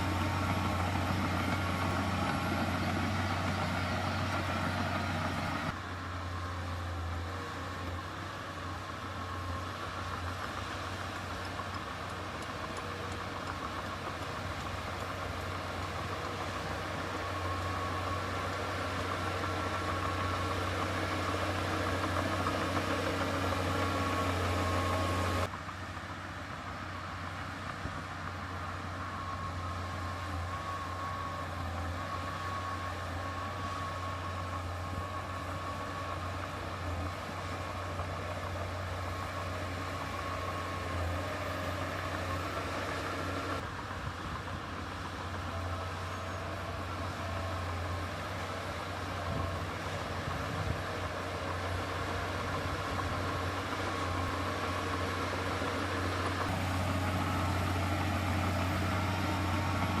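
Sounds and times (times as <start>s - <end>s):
heavy diesel machine engine: 0.0s - 60.0s.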